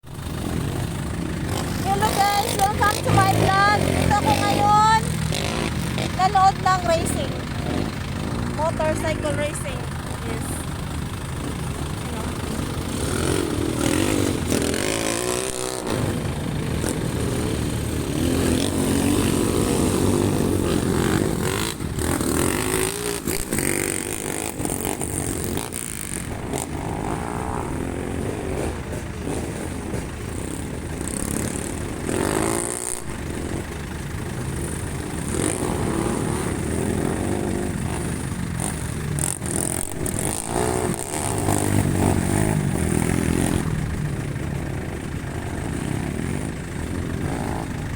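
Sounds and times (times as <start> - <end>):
motorcycles passing by: 0.0 - 47.9
racing motorcycle engines revving: 0.0 - 47.9.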